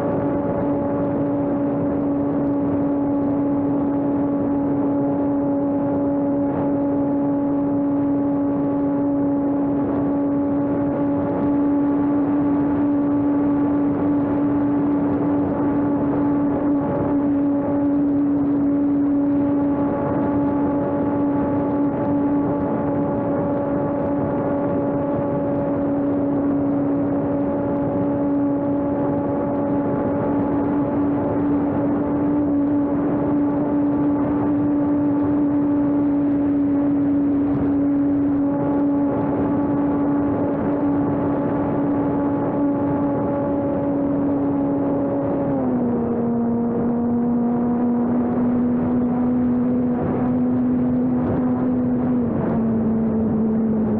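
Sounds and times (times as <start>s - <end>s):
model airplane motor whine: 0.0s - 53.9s.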